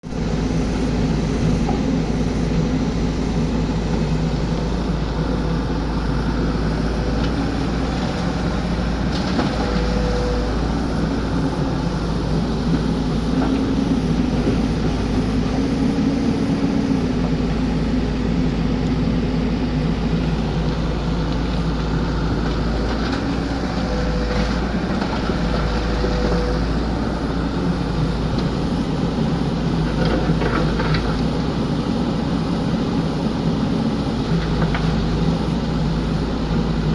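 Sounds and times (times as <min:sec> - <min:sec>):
excavator diesel engine rumbling: 0:00.0 - 0:36.9
high engine whines: 0:00.0 - 0:36.9.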